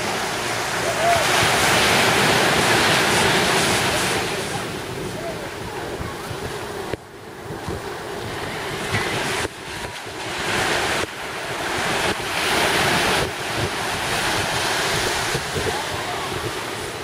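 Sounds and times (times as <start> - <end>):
small surf breaking: 0.0 - 17.0
wind buffeting microphone: 0.0 - 17.0.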